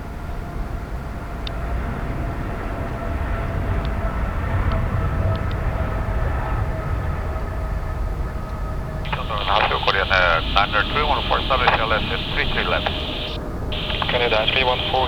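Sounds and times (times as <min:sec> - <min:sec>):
faint jet engine whine: 0:00.0 - 0:15.0
jet engines rumbling: 0:01.6 - 0:15.0.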